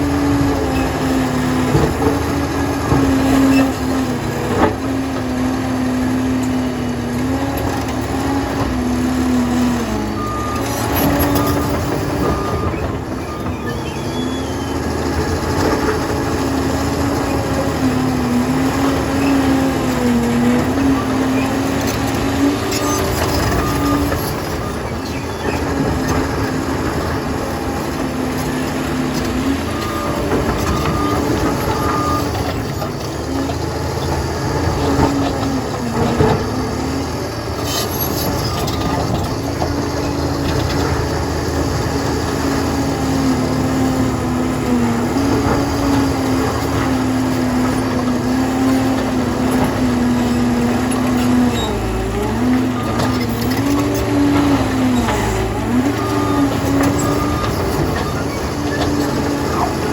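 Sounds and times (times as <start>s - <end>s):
crawler dozer engine under load: 0.0s - 59.9s.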